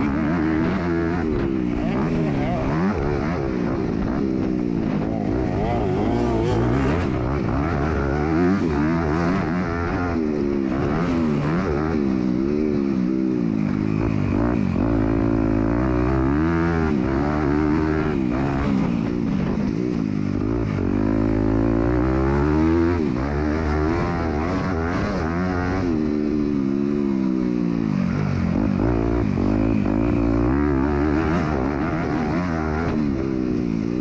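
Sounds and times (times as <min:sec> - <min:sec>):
motocross bike engine revving: 0:00.0 - 0:19.2, 0:20.4 - 0:34.0.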